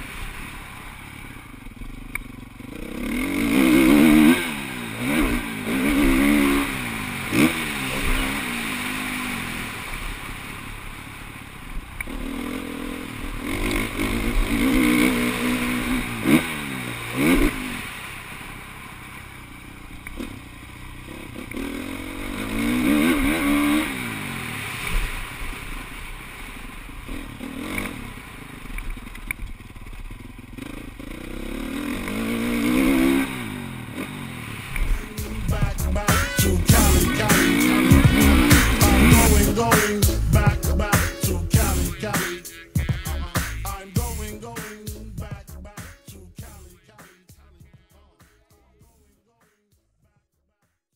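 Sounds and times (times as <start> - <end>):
dirt bike engines revving: 0.0 - 49.6.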